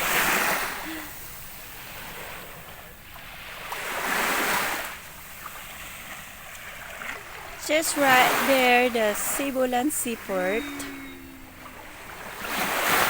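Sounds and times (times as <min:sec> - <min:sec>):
sea waves on shore: 0:00.0 - 0:13.0.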